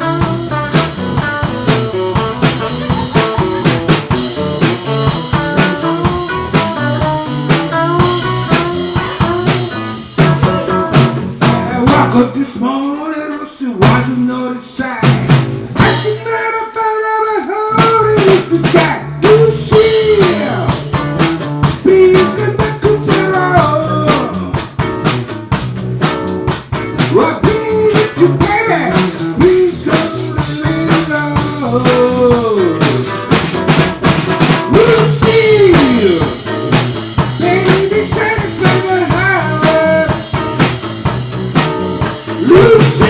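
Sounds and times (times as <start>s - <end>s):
lead guitar line with bent notes: 0.0s - 12.4s, 17.8s - 43.0s
blues band playing: 0.0s - 43.0s.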